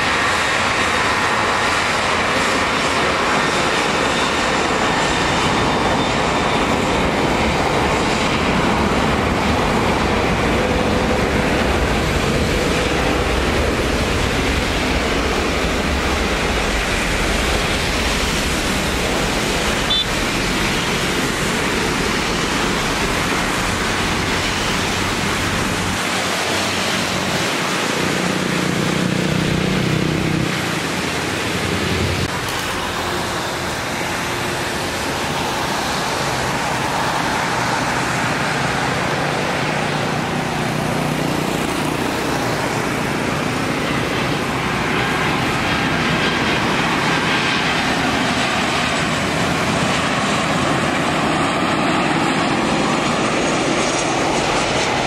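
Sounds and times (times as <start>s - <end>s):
heavy rain: 0.0s - 55.0s
jet engines rumbling: 0.0s - 55.0s.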